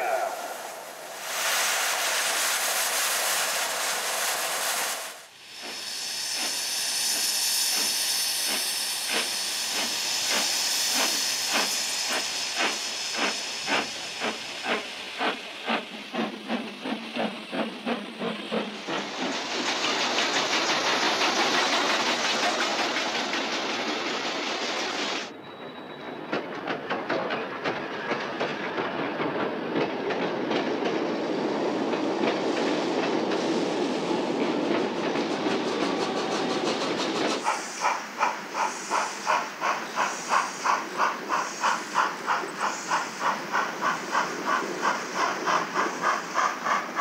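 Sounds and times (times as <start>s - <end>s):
hiss of escaping steam: 0.0s - 25.3s, 31.3s - 47.0s
steam locomotive exhaust beats: 0.0s - 25.3s, 26.0s - 47.0s.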